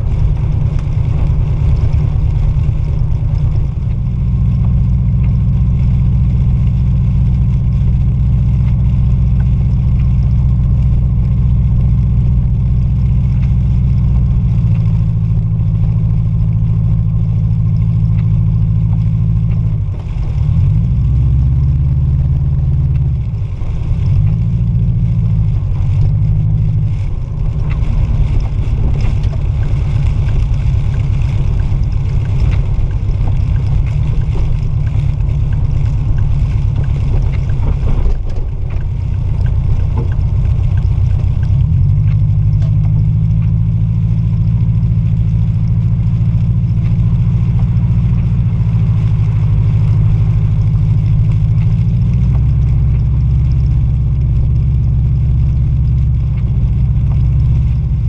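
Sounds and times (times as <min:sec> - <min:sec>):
car engine running while driving: 0:00.0 - 0:58.0.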